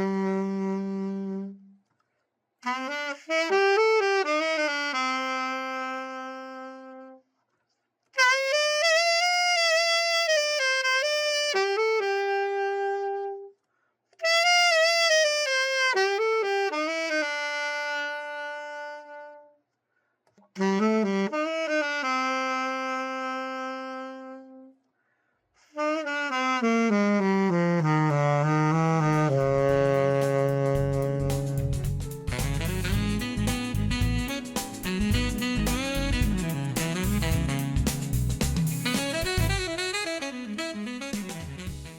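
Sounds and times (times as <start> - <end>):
alto saxophone solo: 0.0 - 1.9, 2.6 - 7.3, 8.1 - 13.6, 14.2 - 19.6, 20.5 - 24.9, 25.6 - 41.9.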